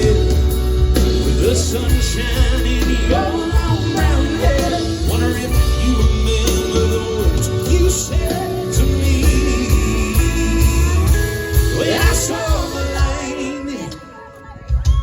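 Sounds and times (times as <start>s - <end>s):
heavy bass line: 0.0s - 13.6s
live band playing: 0.0s - 15.0s
person singing: 0.0s - 15.0s.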